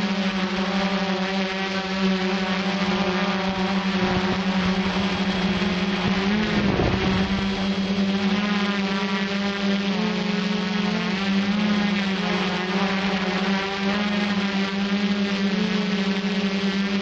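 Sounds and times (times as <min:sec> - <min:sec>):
quadcopter propellers buzzing: 0:00.0 - 0:17.0.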